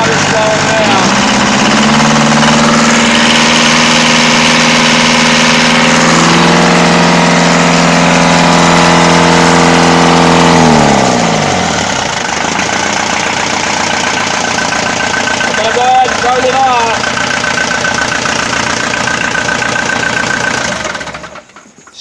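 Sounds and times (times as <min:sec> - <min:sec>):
marine diesel engine running: 0:00.0 - 0:22.0.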